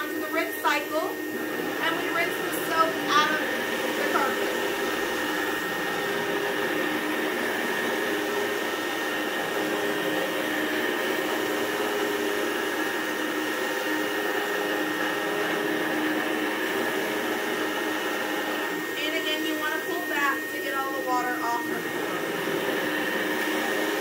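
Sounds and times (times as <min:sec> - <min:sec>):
vacuum motor whine: 0:00.0 - 0:24.0.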